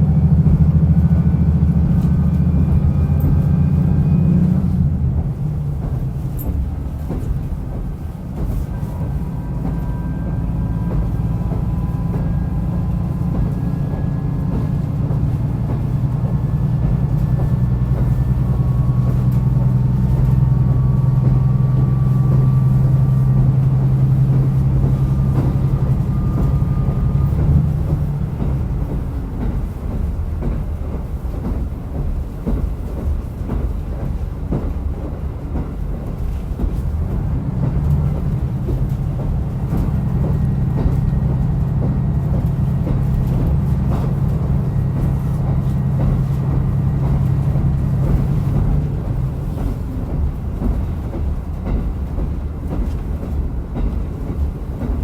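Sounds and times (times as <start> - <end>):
diesel engine drone: 0.0 - 32.5, 34.3 - 55.0
train rumbling: 0.0 - 55.0.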